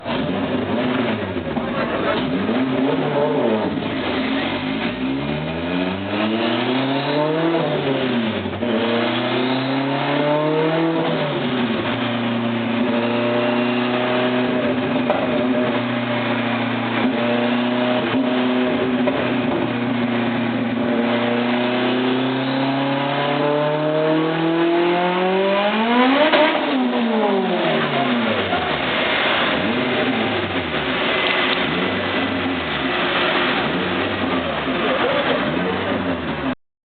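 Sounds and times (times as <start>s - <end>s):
car engine revving on dynamometer: 0.0s - 36.6s.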